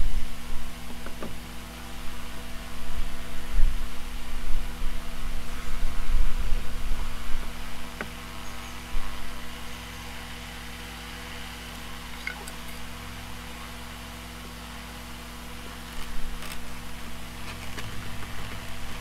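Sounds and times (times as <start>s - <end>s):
electrical hum: 0.0s - 19.0s
low rumbling: 0.0s - 19.0s.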